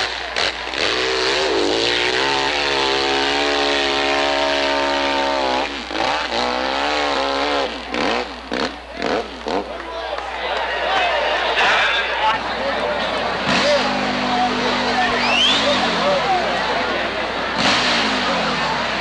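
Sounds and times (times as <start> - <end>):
dirt bike engine revving: 0.0 - 9.9, 11.2 - 19.0.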